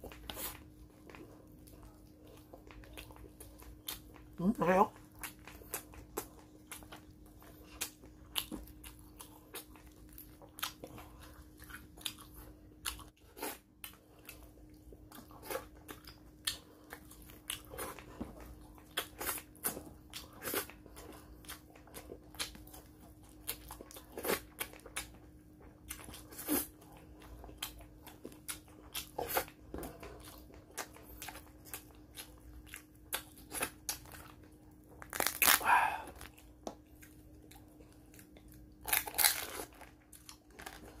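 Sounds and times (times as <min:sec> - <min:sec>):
crunching and chewing: 0:00.0 - 0:41.0.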